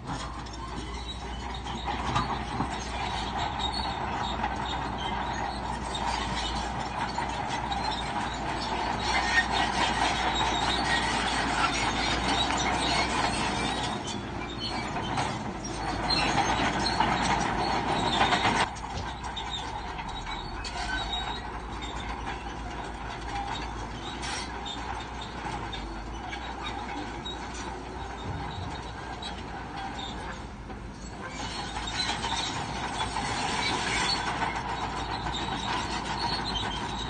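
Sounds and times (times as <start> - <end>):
diesel engine: 0.0 - 37.0
steel tracks clanking and squealing: 0.0 - 37.0.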